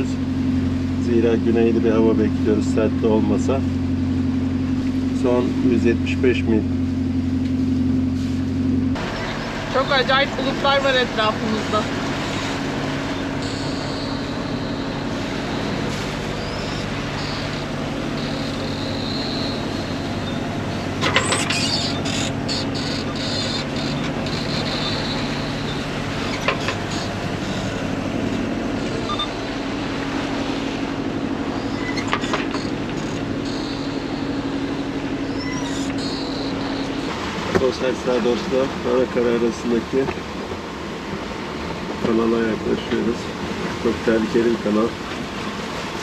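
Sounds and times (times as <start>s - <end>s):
boat engine running: 0.0s - 46.0s
wind and sea rushing: 9.0s - 46.0s.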